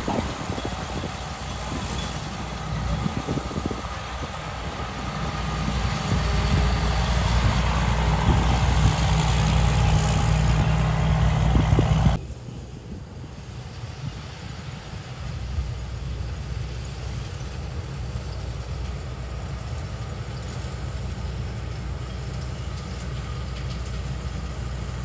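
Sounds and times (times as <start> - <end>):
combine harvester engine and threshing: 0.0 - 25.0.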